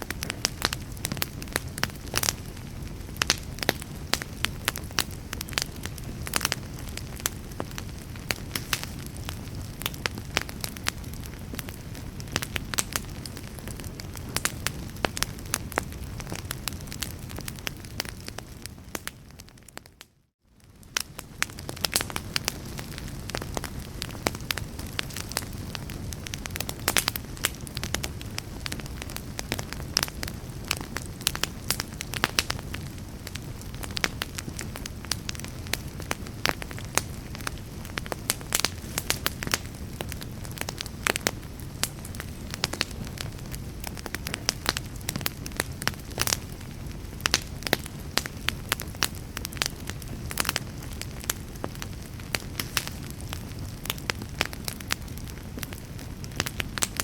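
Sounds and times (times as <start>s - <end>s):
low fire rumble: 0.0s - 57.0s
wood fire crackling and popping: 0.0s - 57.0s.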